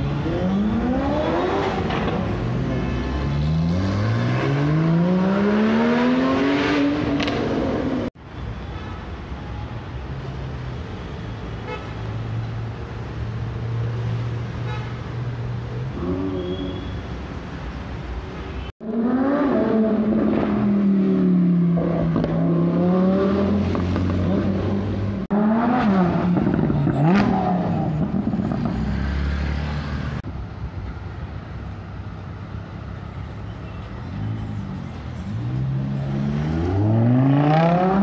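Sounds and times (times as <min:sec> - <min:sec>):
traffic noise: 0:00.0 - 0:38.0.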